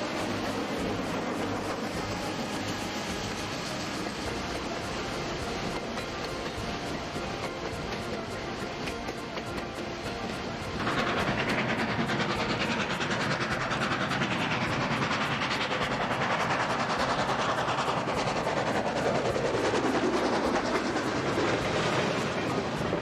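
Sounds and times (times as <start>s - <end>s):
train passing at speed: 0.0s - 23.0s
wheels clattering over rails: 0.0s - 23.0s.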